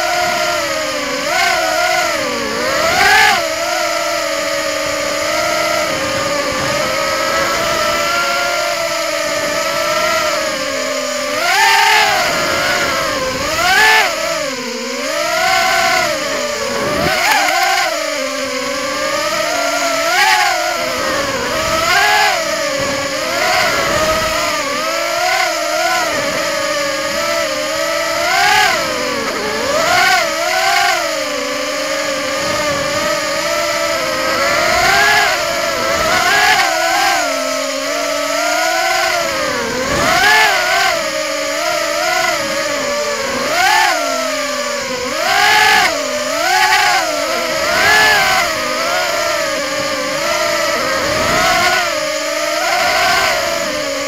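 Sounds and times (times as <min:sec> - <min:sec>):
quadcopter motors buzzing whine: 0:00.0 - 0:54.0.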